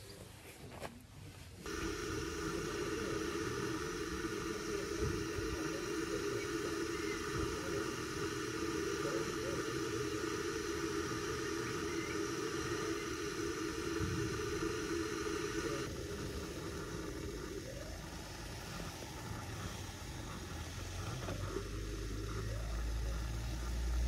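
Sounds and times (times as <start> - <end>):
camping stove burner hissing: 1.6 - 24.0.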